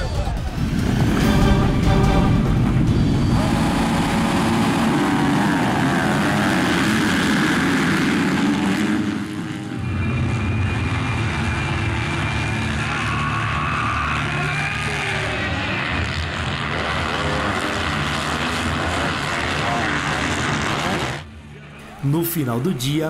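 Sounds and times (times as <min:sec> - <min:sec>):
motocross bikes revving and accelerating: 0:00.6 - 0:21.4.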